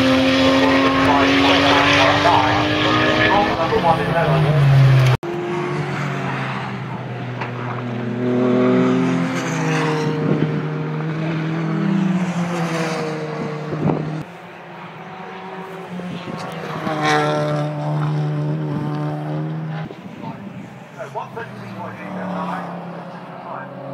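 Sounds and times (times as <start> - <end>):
racing car engines passing: 0.0 - 23.9.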